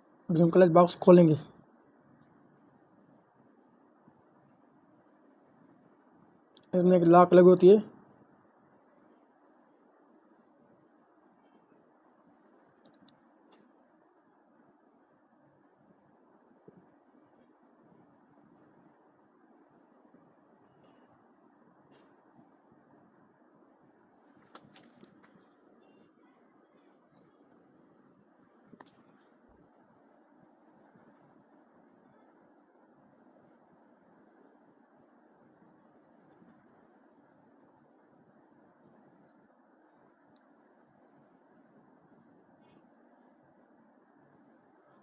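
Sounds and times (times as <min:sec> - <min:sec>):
faint high-pitched buzz: 0:00.0 - 0:45.0.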